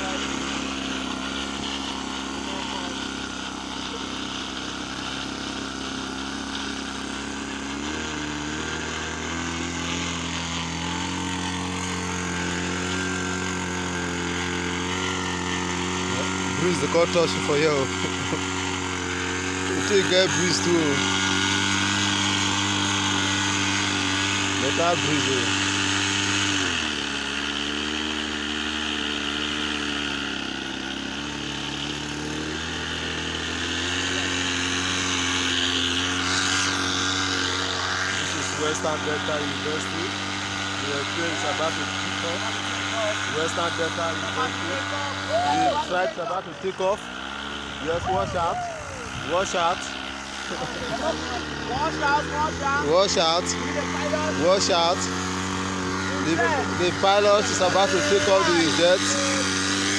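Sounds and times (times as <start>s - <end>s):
small model plane engine running: 0.0s - 59.9s.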